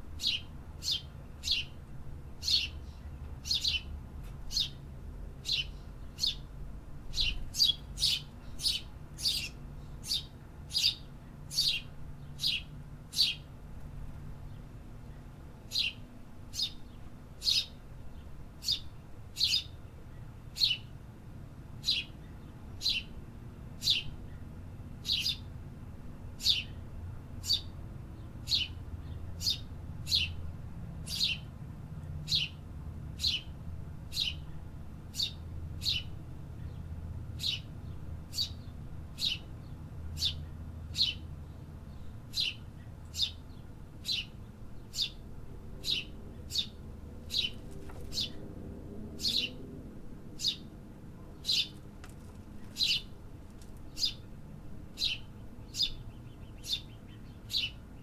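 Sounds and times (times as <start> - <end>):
bird chirping: 0.2 - 3.9, 4.5 - 4.8, 5.4 - 6.5, 7.1 - 13.5, 14.4 - 20.9, 21.8 - 23.2, 23.8 - 24.4, 25.0 - 25.5, 26.3 - 26.8, 27.4 - 30.4, 31.0 - 31.5, 32.2 - 32.6, 33.2 - 45.2, 45.8 - 48.4, 49.2 - 49.6, 50.3 - 51.9, 52.6 - 53.2, 53.8 - 58.0.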